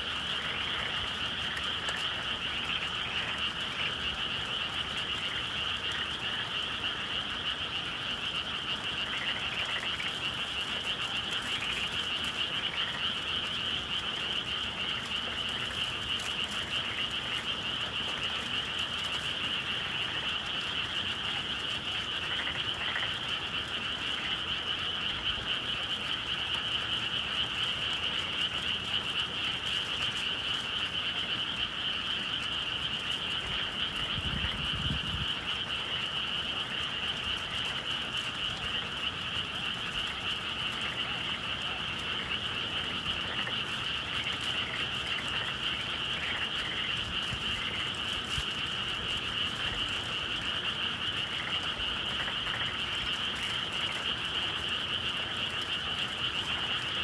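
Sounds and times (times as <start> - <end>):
frogs calling: 0.0 - 57.0.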